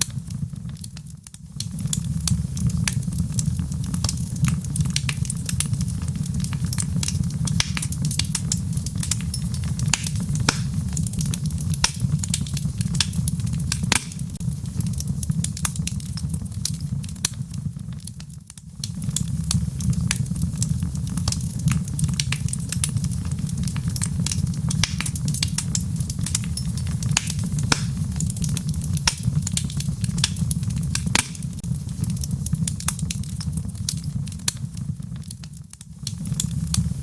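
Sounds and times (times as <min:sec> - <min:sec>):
fire crackling and popping: 0:00.0 - 0:37.0
fire rumbling: 0:00.0 - 0:37.0.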